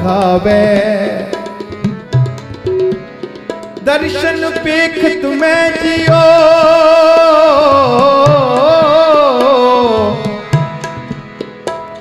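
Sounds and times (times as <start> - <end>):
harmonium: 0.0 - 12.0
tabla strokes: 0.0 - 12.0.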